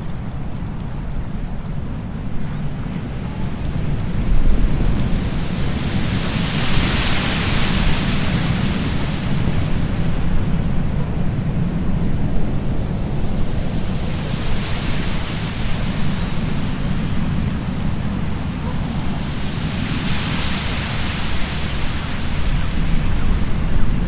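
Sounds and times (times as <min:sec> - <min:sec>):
wind rumbling on microphone: 0:00.0 - 0:24.0
surf breaking on beach: 0:03.0 - 0:22.8.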